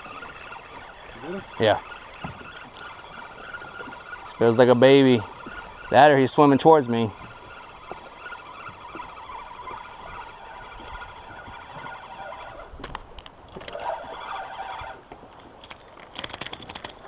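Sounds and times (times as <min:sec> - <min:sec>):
fishing reel whirring: 0:00.0 - 0:17.0.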